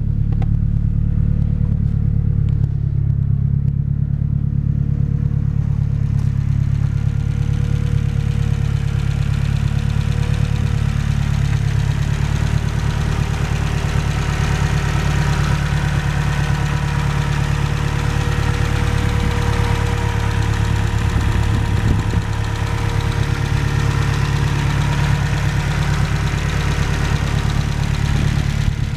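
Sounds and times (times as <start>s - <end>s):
car engine running: 0.0s - 28.9s.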